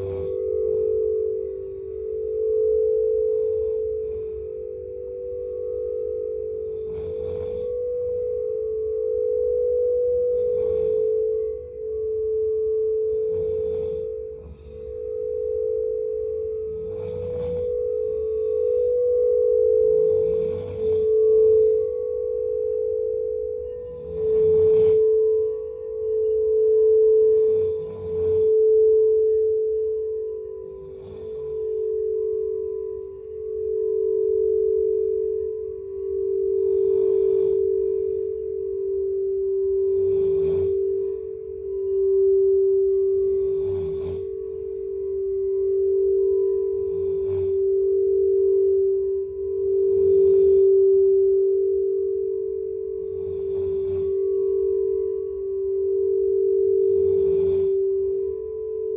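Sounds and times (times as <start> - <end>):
person snoring: 0.0 - 58.9
singing bowl tone: 0.0 - 58.9.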